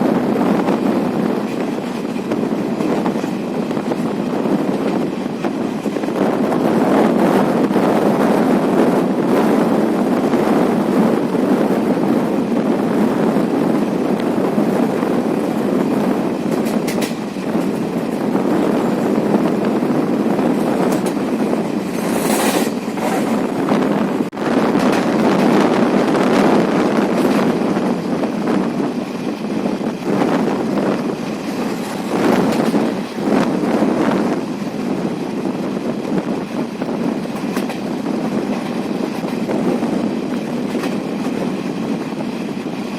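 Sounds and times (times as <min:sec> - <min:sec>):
rushing air: 0:00.0 - 0:42.9
train wheels on track: 0:00.0 - 0:42.9.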